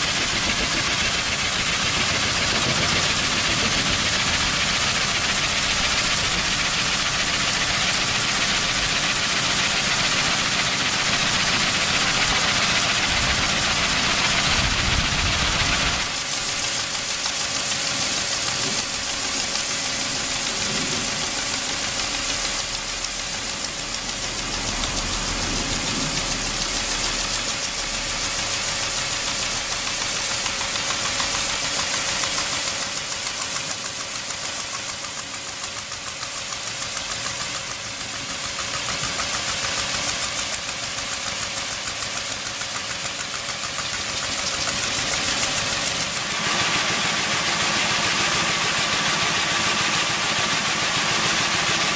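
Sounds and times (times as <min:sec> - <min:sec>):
pressure washer hum: 0:00.0 - 0:51.9
pulsing water jet hiss: 0:00.0 - 0:51.9.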